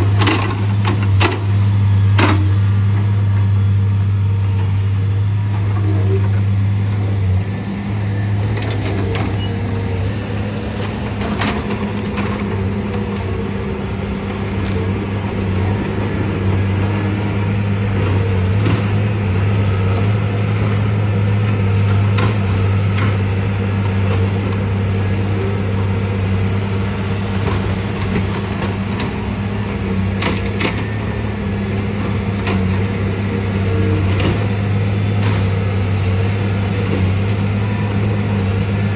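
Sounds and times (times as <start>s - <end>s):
excavator diesel engine humming: 0.0s - 38.9s.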